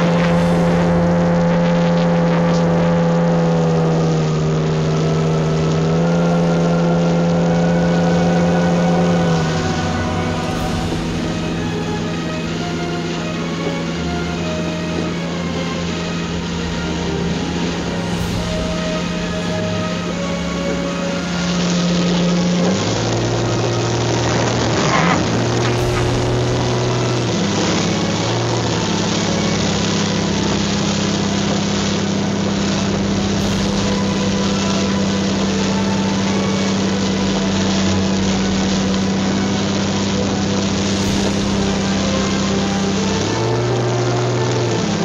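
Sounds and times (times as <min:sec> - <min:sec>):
car engine droning: 0:00.0 - 0:45.0
rushing water and road noise: 0:00.0 - 0:45.0.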